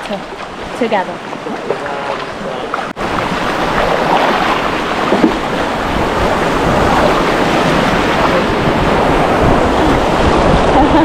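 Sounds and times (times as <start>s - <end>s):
river water rushing and splashing: 0.0s - 11.0s
wind rumbling on microphone: 0.0s - 11.0s.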